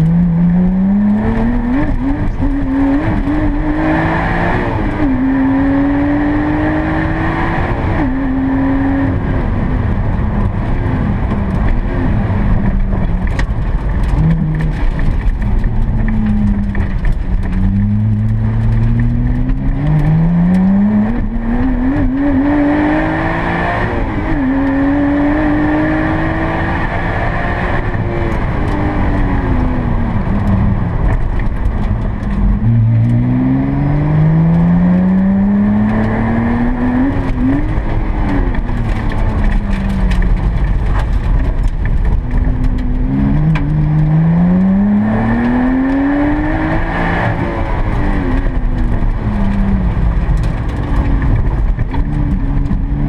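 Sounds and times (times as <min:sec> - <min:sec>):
car engine accelerating hard: 0:00.0 - 0:53.0
tyre and road noise: 0:00.0 - 0:53.0.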